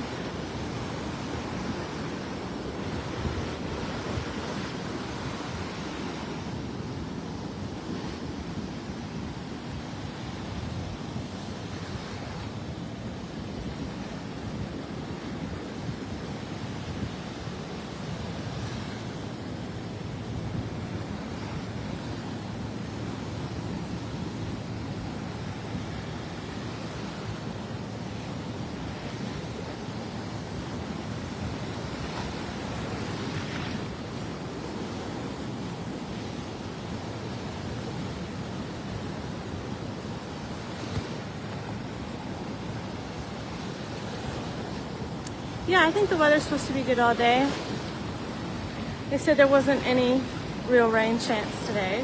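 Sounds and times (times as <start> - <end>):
waves breaking on beach: 0.0 - 52.0.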